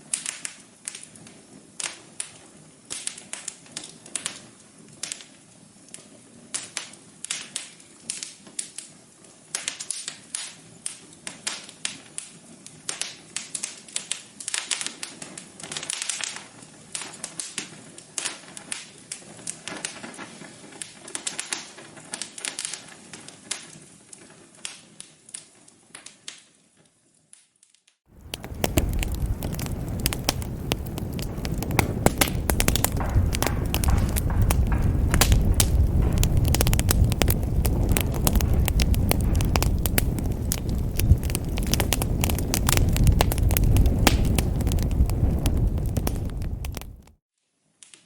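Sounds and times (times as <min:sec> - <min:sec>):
wood fire crackling: 0:00.0 - 0:26.6, 0:28.1 - 0:47.2.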